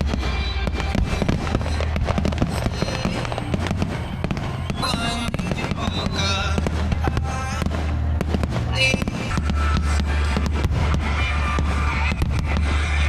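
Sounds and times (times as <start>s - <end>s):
fireworks popping and crackling: 0.0s - 13.0s
music with steady bass line: 0.0s - 13.0s.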